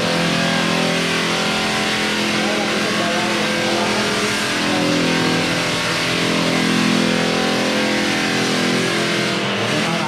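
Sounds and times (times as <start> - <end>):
floor sanding machine motor hum: 0.0 - 10.0.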